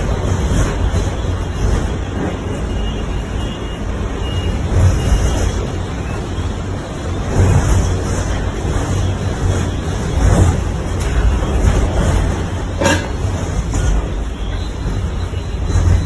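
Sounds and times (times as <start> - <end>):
storm wind gusting: 0.0 - 16.0.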